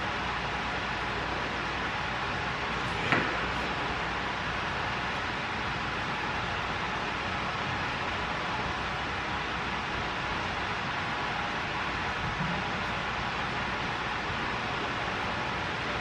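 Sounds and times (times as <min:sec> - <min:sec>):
steady room noise hiss: 0:00.0 - 0:16.0.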